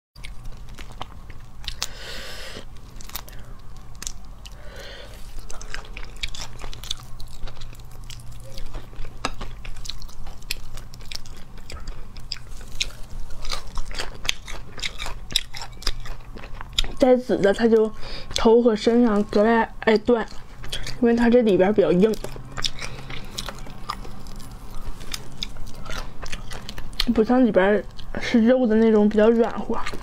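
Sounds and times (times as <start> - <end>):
chewing: 0.2 - 30.0.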